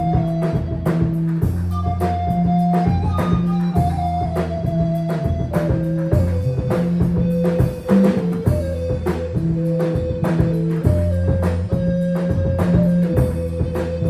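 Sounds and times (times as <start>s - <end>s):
bass notes: 0.0s - 14.0s
drum kit steady beat: 0.0s - 14.0s
organ-like keyboard notes: 0.0s - 14.0s.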